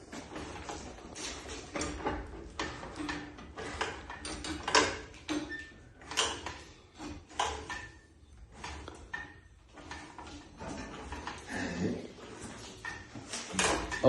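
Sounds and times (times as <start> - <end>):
knocks and clunks: 0.0 - 14.0.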